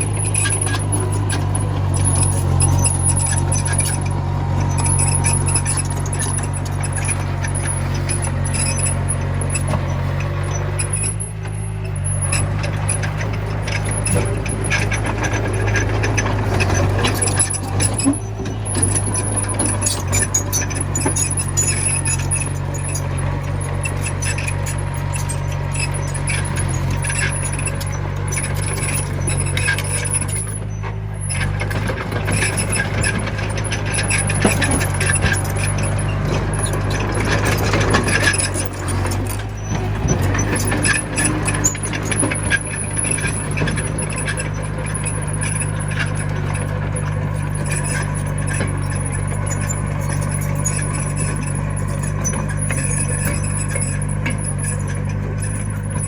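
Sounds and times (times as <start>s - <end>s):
bulldozer diesel engine running: 0.0s - 56.0s
machine clanking: 0.0s - 56.0s.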